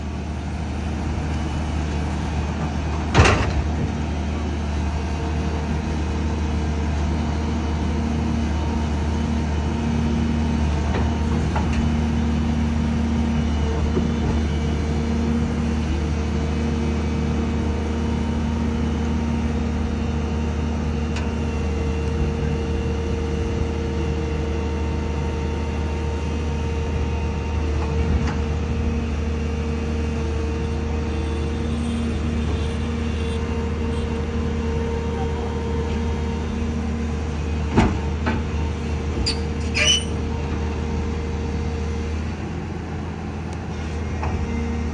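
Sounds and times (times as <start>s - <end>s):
truck diesel engine labouring: 0.0s - 44.9s.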